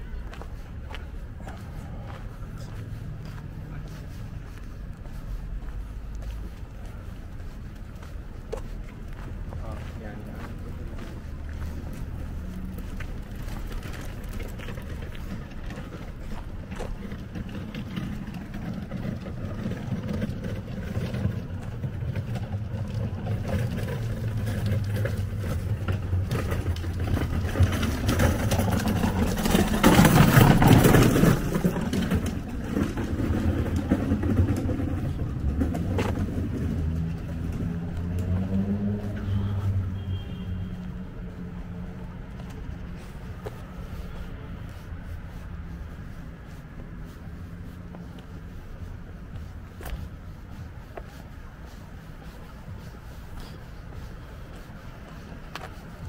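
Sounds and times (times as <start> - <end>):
low traffic rumble: 0.0 - 56.0.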